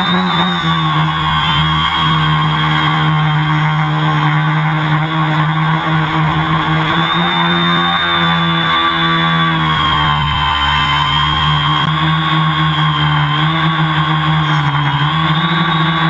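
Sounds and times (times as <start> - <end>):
drone propellers humming: 0.0 - 16.0
high electric motor whine: 0.0 - 16.0.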